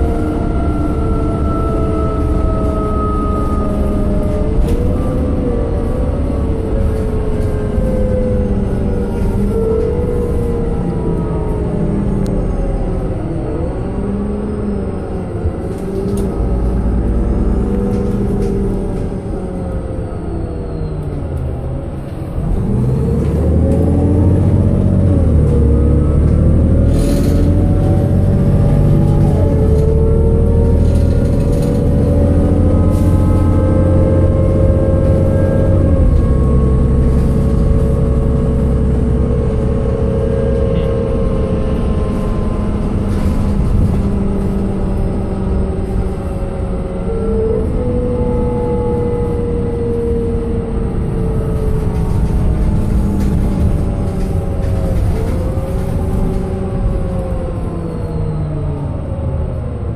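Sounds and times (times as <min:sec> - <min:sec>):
bus engine drone from inside: 0:00.0 - 0:59.9.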